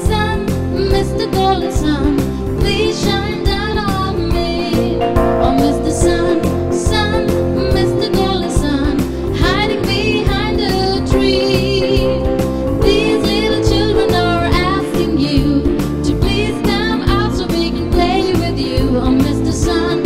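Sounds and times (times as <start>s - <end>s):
instrumental backing with steady beat: 0.0s - 20.0s.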